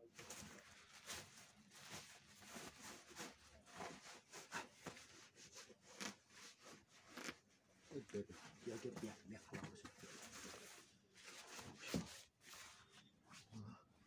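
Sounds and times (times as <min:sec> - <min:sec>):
cloth and plastic rustling: 0:00.0 - 0:13.6.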